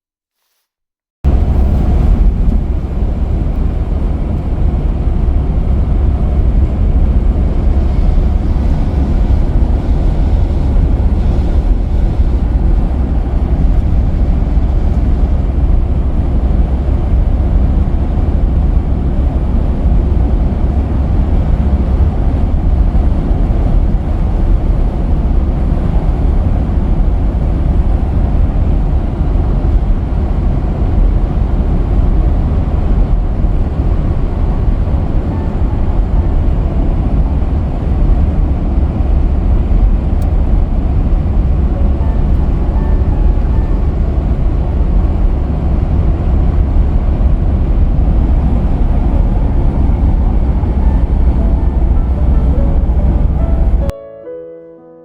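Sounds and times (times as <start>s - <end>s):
van road and wind rumble: 1.2s - 53.9s.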